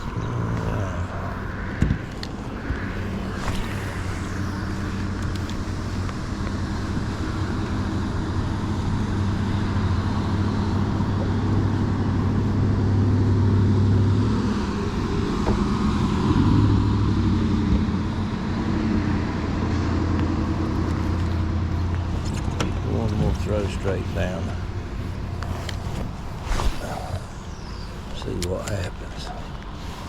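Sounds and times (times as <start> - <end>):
boat motor humming: 0.0 - 30.0
water noise: 0.0 - 30.0
wind: 0.0 - 30.0.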